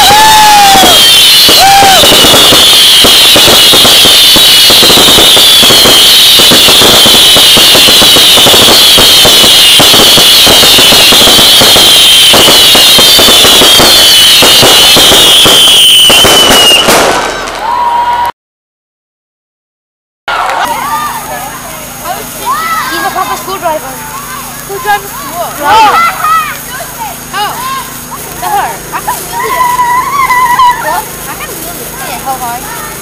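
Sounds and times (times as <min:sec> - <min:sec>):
fireworks whistling: 0:00.0 - 0:18.2, 0:20.4 - 0:33.0
fireworks crackling: 0:00.0 - 0:18.3, 0:20.3 - 0:33.0.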